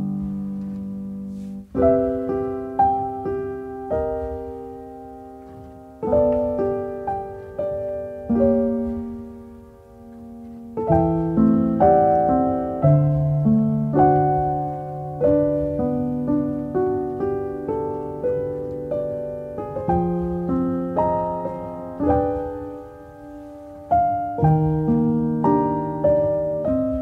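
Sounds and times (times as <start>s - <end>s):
gentle solo piano: 0.0s - 27.0s.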